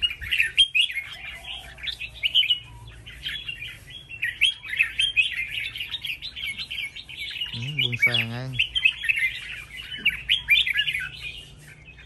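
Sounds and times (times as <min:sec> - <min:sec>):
birds chirping and warbling: 0:00.0 - 0:12.0.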